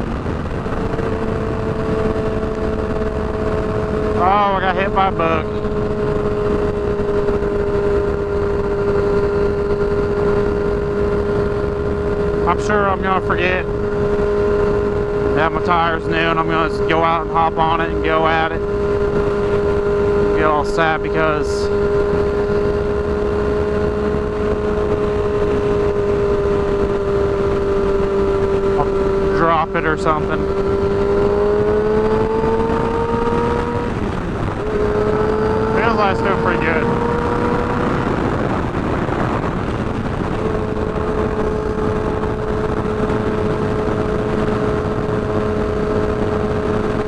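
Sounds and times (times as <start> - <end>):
motorcycle engine cruising: 0.0 - 47.0
wind noise: 0.0 - 47.0.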